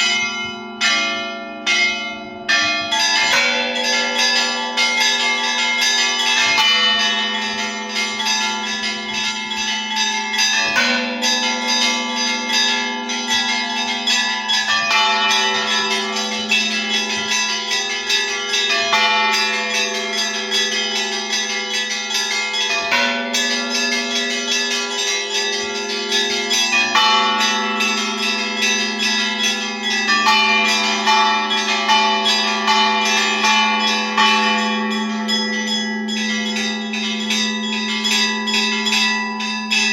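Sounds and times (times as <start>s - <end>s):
heavy bell strikes: 0.0s - 39.9s
small bells chiming rapidly: 0.0s - 39.9s
sustained low bell tone: 0.0s - 39.9s.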